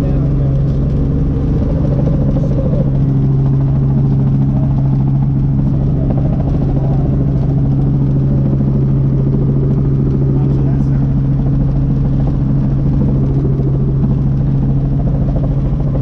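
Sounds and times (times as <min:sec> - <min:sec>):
helicopter engine and rotors: 0:00.0 - 0:16.0.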